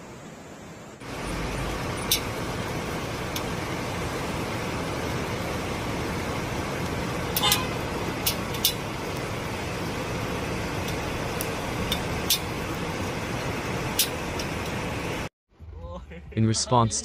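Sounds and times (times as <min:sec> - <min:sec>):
river rushing in flood: 0:01.0 - 0:15.3.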